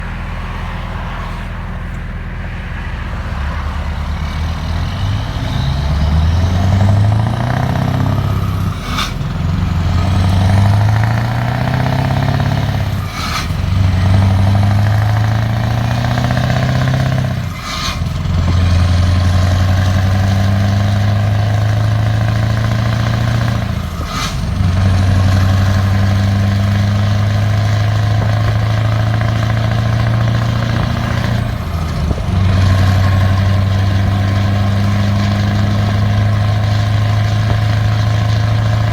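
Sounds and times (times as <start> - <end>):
diesel truck accelerating: 0.0 - 38.9.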